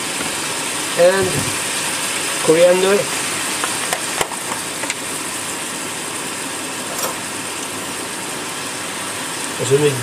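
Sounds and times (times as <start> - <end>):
meat frying sizzle: 0.0 - 10.0.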